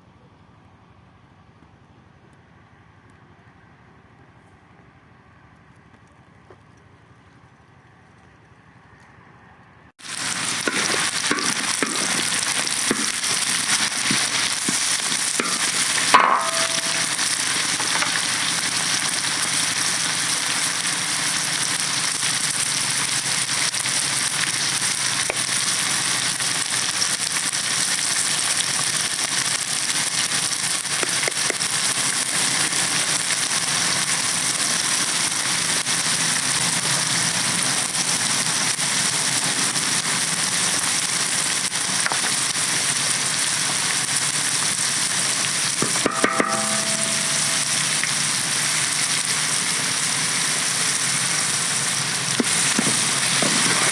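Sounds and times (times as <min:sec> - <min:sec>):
food sizzling in a pan: 0:10.0 - 0:53.9.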